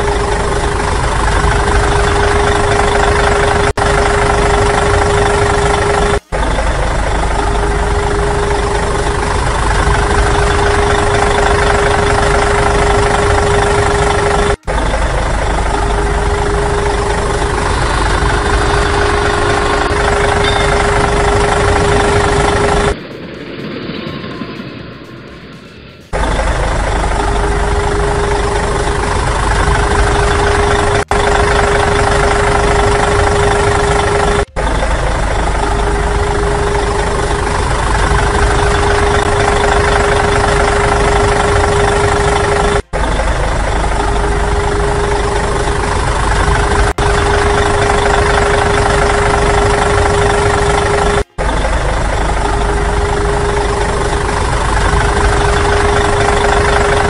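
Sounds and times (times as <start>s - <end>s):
diesel engine idling: 0.0s - 23.0s, 26.1s - 57.0s.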